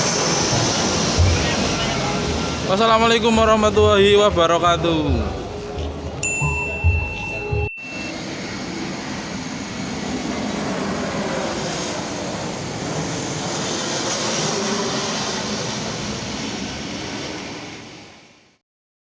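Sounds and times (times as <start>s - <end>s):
jet aircraft passing overhead: 0.0s - 6.1s, 7.9s - 18.6s.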